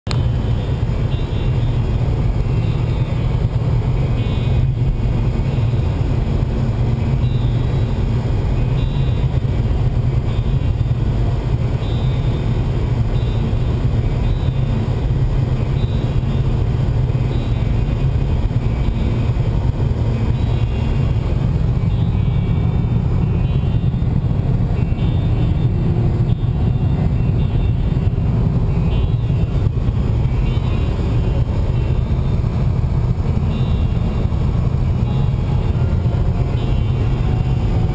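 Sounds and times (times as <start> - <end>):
car engine and road rumble: 0.0 - 37.9.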